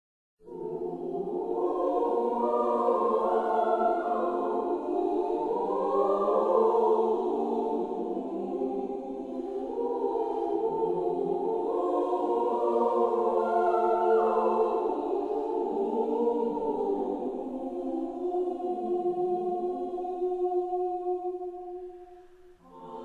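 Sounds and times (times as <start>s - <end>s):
women's choir singing: 0.4s - 23.0s.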